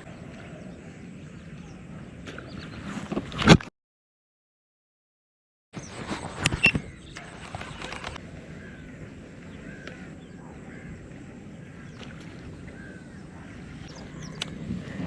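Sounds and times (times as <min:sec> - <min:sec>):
birds chirping: 0:00.0 - 0:03.4, 0:05.7 - 0:15.0.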